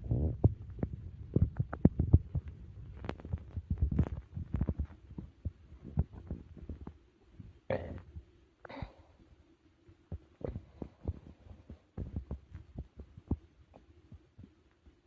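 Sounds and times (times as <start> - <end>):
stomach gurgling: 0.0 - 9.2, 10.1 - 15.0.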